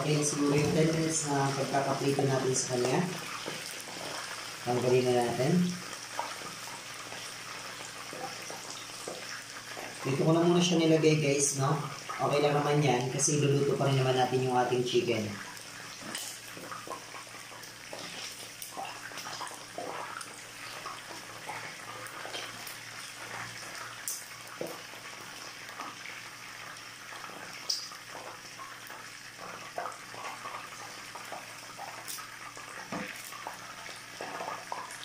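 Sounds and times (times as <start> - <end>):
oil sizzling in a frying pan: 0.0 - 35.0.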